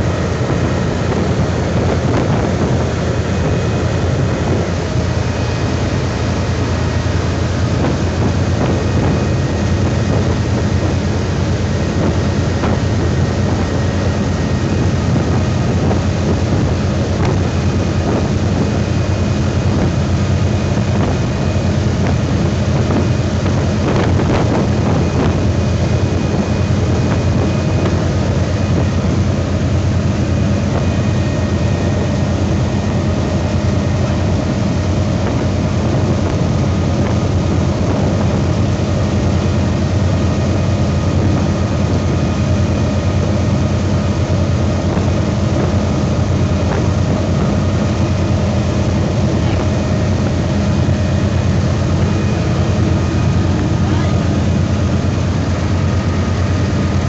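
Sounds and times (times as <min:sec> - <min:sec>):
boat engine running: 0:00.0 - 0:57.0
water rushing in wake: 0:00.0 - 0:57.0.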